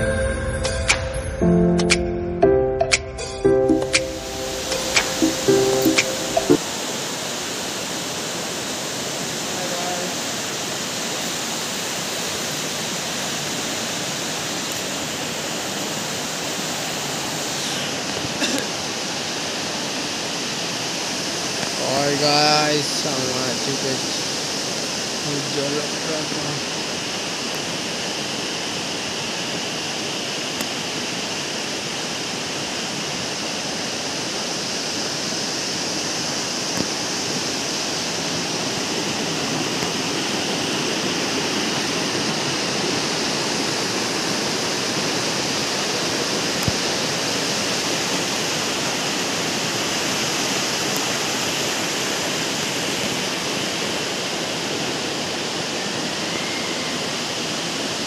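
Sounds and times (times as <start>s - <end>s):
waterfall rushing: 3.2s - 58.0s
stream running over rocks: 4.0s - 58.0s.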